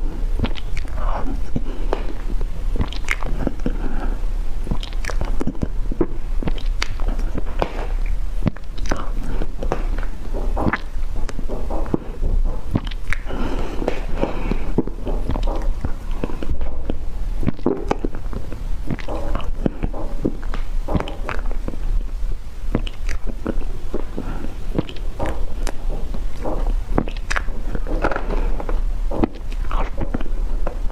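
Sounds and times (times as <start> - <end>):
biting and chewing: 0.0 - 30.9
mouth clicks: 0.4 - 30.9.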